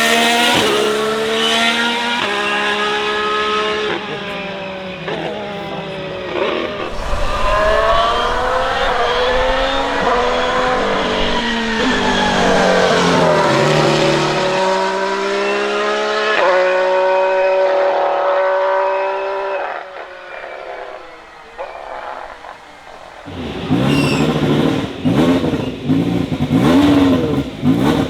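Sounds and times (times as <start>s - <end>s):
racing car engine at high revs: 0.0s - 28.0s.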